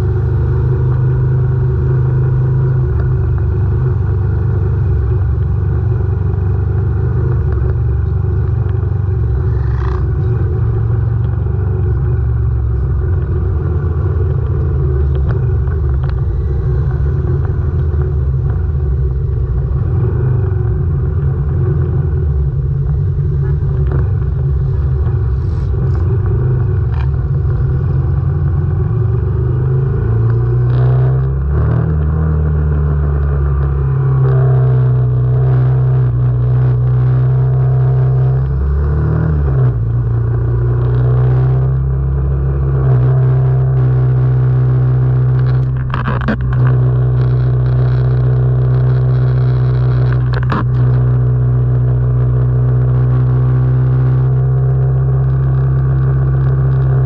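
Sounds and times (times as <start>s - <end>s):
motorcycle engine deep rumble: 0.0s - 57.0s.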